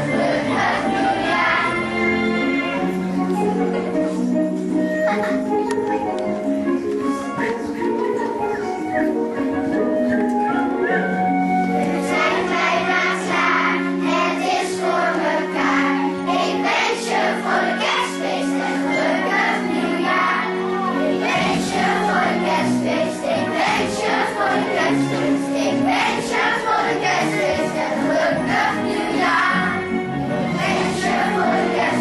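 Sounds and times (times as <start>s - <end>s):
children's choir singing: 0.0s - 4.3s, 6.4s - 32.0s
instrumental accompaniment: 0.0s - 32.0s.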